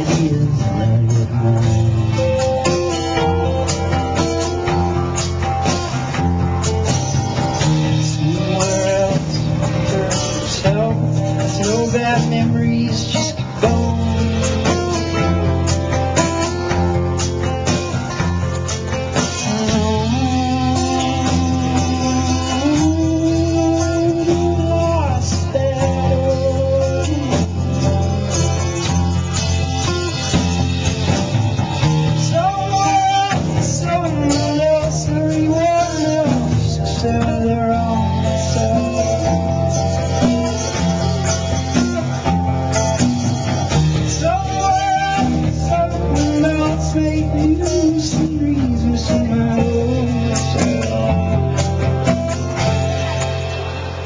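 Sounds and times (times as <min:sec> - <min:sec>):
electric and acoustic guitars: 0:00.0 - 0:54.0
live band playing: 0:00.0 - 0:54.0.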